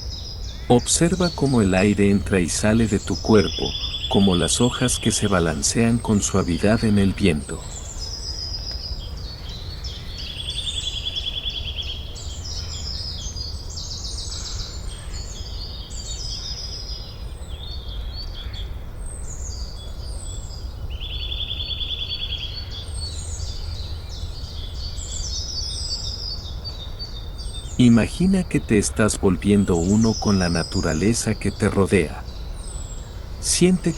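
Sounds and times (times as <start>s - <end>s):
bird trills: 0.0s - 33.9s
songbirds singing and chirping: 0.0s - 33.9s.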